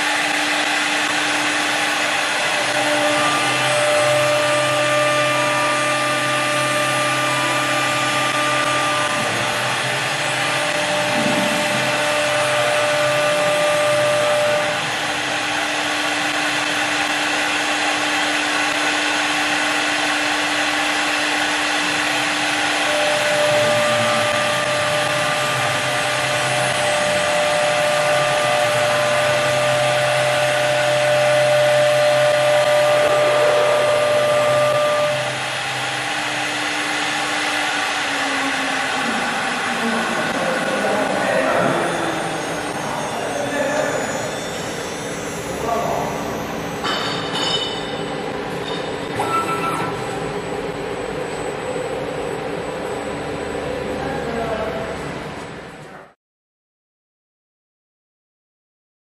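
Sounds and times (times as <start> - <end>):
lathe motor whining: 0.0 - 55.9.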